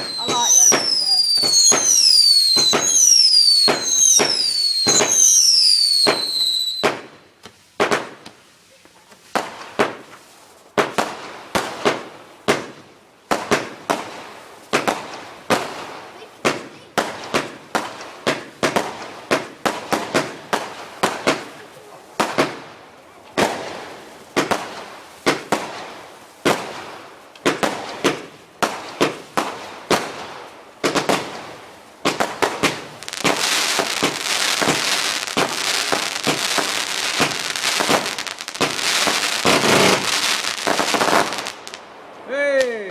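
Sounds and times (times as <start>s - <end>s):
firework cake bangs: 0.0s - 5.4s, 10.8s - 14.2s, 14.8s - 22.7s, 23.4s - 41.6s.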